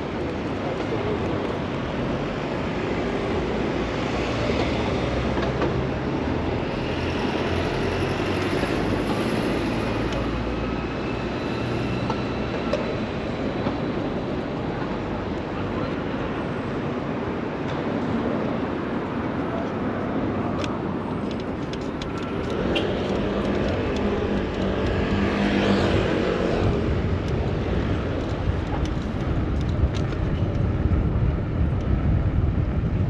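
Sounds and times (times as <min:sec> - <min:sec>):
city traffic rumbling: 0:00.0 - 0:33.0.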